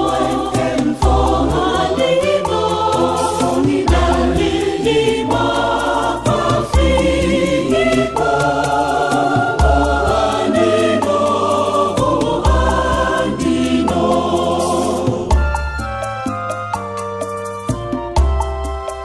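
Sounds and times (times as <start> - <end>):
voices singing over music: 0.0 - 16.4.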